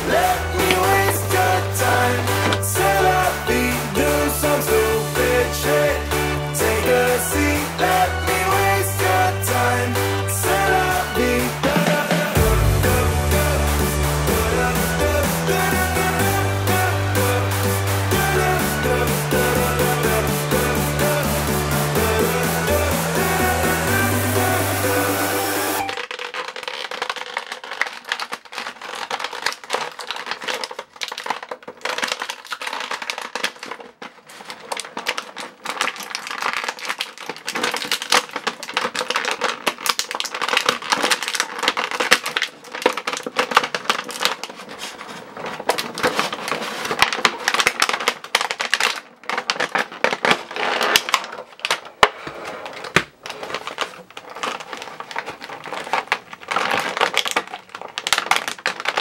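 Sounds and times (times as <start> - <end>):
plastic packaging crinkling: 0.0 - 19.8, 25.8 - 59.0.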